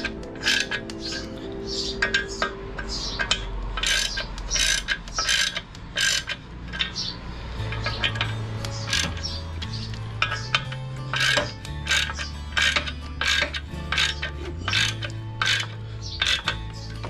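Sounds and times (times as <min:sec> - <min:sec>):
background music: 0:00.0 - 0:17.0
socket ratchet clicking: 0:00.0 - 0:17.0.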